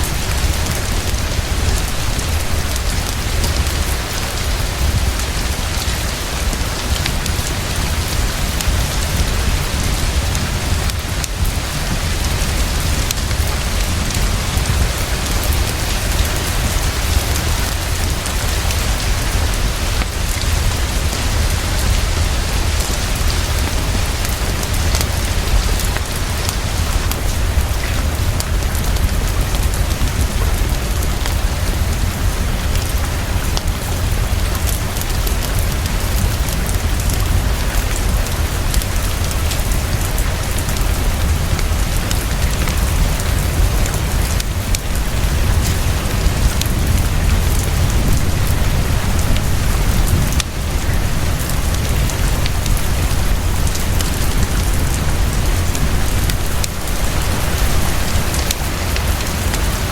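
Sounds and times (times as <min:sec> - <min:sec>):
deep continuous rumble: 0:00.0 - 0:59.9
heavy rainfall: 0:00.0 - 0:59.9.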